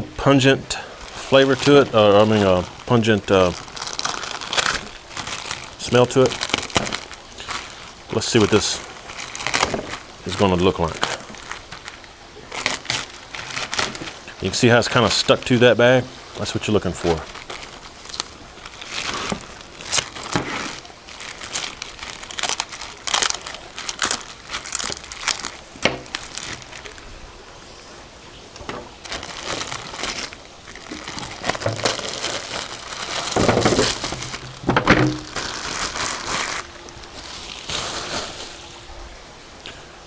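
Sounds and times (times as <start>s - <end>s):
plastic bag crinkling: 0.3s - 39.1s.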